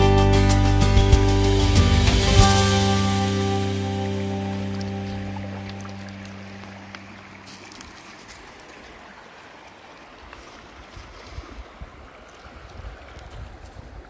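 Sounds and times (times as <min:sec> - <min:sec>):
creek water running over rocks: 0:01.2 - 0:14.0.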